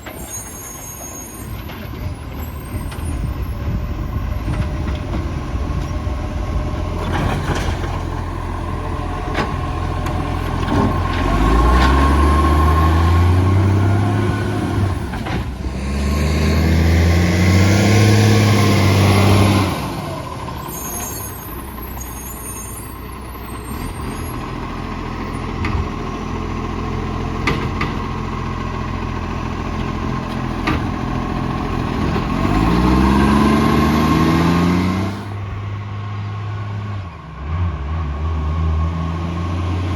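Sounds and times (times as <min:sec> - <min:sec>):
diesel truck engine idling and revving: 0:00.0 - 0:39.9.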